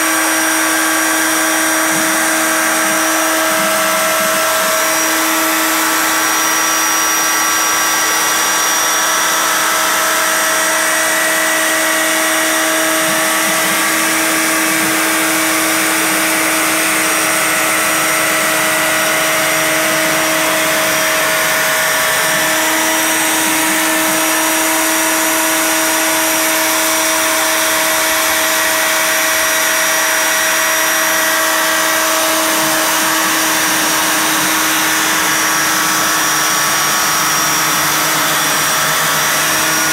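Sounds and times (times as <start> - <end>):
cnc router spindle whining: 0.0 - 39.9.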